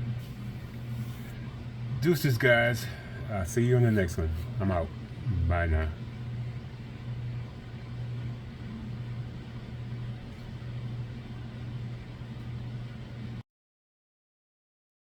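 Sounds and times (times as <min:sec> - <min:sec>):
low room hum: 0:00.0 - 0:13.4.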